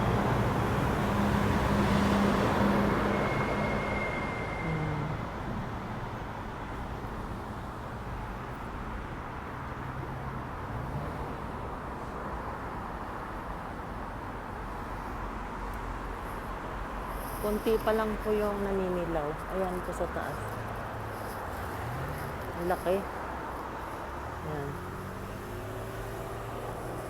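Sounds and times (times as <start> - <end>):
road traffic rushing: 0.0 - 27.0.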